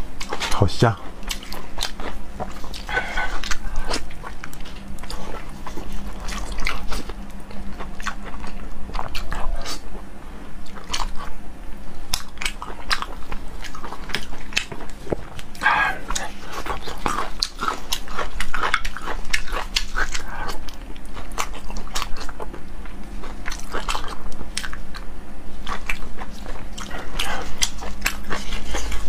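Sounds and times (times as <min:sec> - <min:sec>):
man chewing food: 0:00.0 - 0:29.0.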